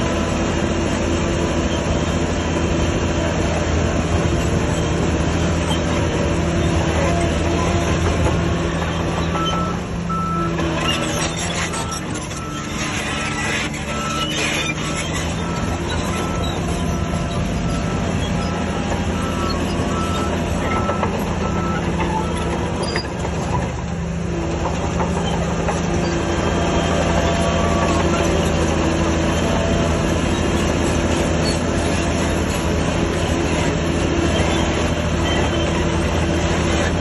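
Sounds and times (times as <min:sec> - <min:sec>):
diesel engine drone: 0:00.0 - 0:37.0.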